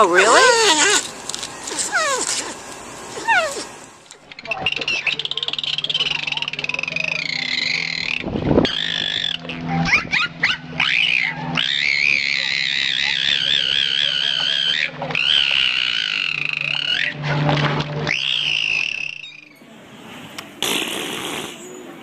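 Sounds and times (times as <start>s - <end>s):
pet wavering high calls: 0.0s - 1.1s, 1.7s - 2.6s, 3.2s - 19.7s.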